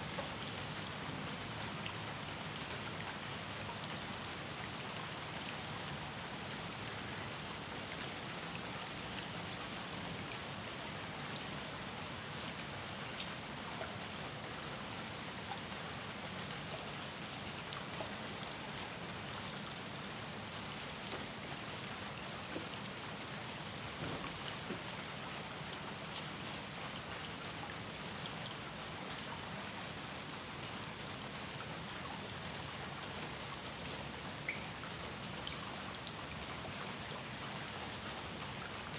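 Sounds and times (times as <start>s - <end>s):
rain falling on a pond: 0.0s - 38.9s.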